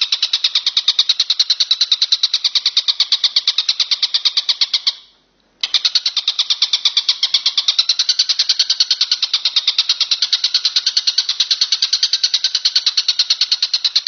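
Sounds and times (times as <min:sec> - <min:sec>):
katydid trilling: 0:00.0 - 0:05.0, 0:05.6 - 0:14.0.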